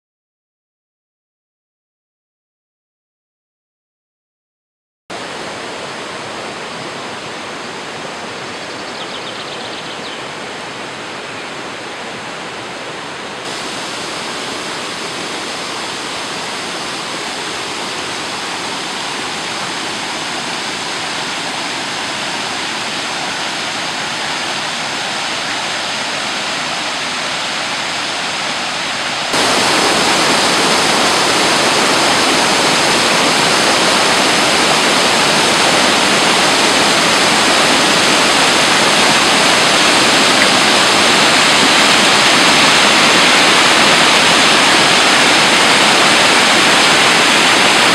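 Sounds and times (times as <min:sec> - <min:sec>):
flowing water rushing: 0:05.1 - 0:47.9
small waterfall tumbling: 0:05.1 - 0:47.9.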